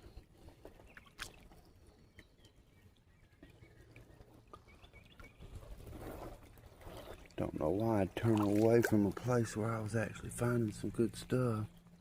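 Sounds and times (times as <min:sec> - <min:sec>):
faint creekside ambience: 0:00.0 - 0:12.0.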